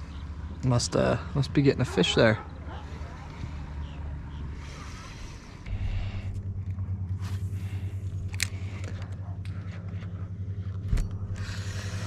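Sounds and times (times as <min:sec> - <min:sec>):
motor humming low: 0:00.0 - 0:12.0.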